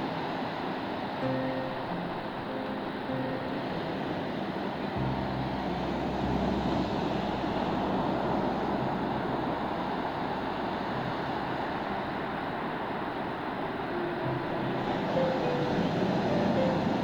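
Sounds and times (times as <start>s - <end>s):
sea surf: 0.0s - 17.0s
wind: 0.0s - 17.0s
low engine rumble: 1.2s - 17.0s.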